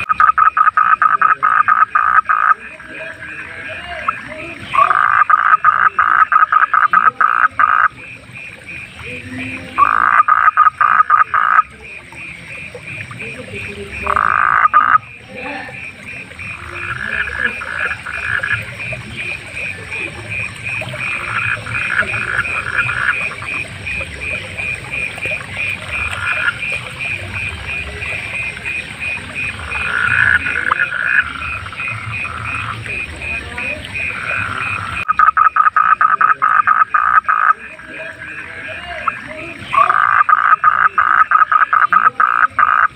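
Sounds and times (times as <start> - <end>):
fast-pulsing frog trill: 0.0 - 42.9
frogs croaking: 0.0 - 42.9.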